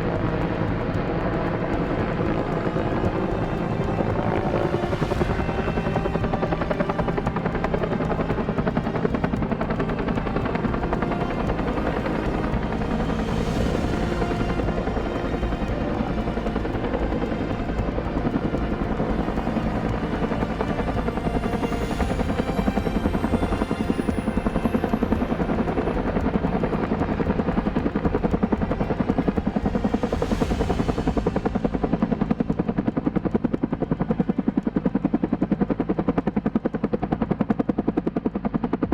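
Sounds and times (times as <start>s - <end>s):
helicopter engine hum: 0.0s - 38.9s
helicopter rotor chopping: 0.0s - 38.9s.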